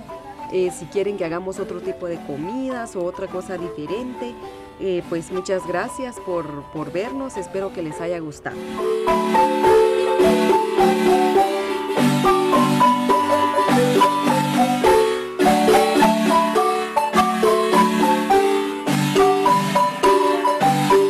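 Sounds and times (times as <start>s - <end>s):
marimba music: 0.0s - 21.0s.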